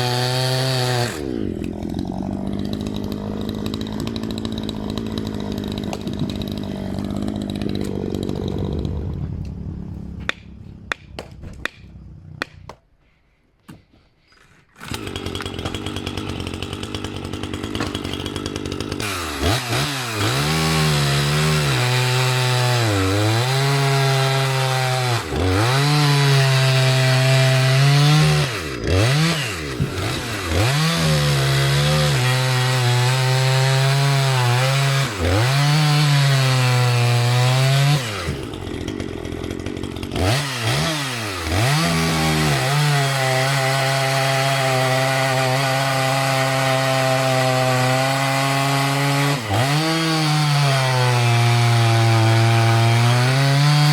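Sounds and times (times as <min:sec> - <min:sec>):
chainsaw running at high revs: 0:00.0 - 0:09.2, 0:14.8 - 0:53.9.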